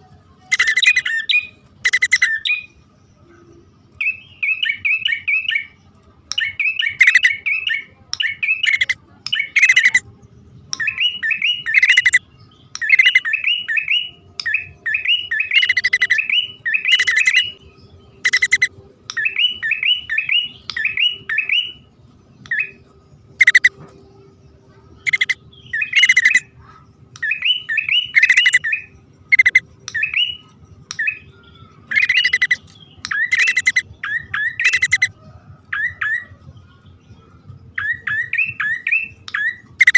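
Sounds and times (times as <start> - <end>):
bird chirping phrases: 0.0 - 39.9
harsh bird notes: 0.4 - 10.1, 10.7 - 36.4.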